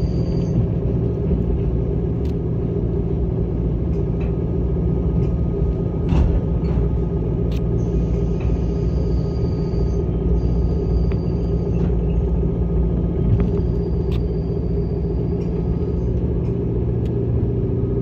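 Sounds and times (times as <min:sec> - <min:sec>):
train cabin rumble: 0:00.0 - 0:18.0.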